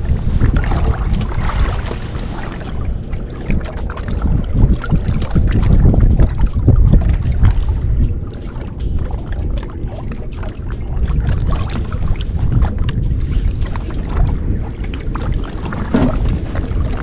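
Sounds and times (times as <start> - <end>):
water slapping against hull: 0.0 - 17.0
water splashes: 0.0 - 17.0
wind buffeting microphone: 0.0 - 17.0.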